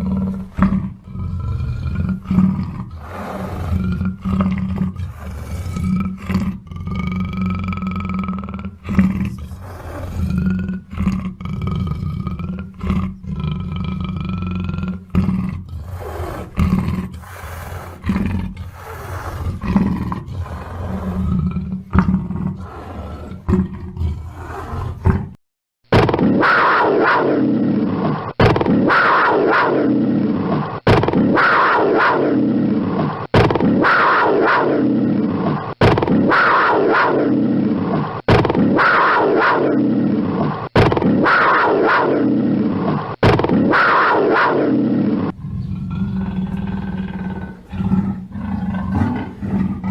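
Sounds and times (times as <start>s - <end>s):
big cat growling: 0.0s - 25.4s, 26.1s - 49.9s
big cat roaring: 0.0s - 25.4s, 26.1s - 49.9s.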